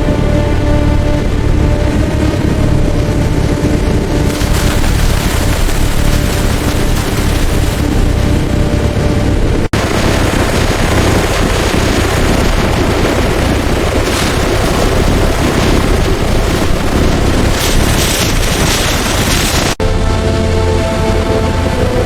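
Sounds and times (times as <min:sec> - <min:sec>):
loud steady rushing noise: 0:00.0 - 0:22.0.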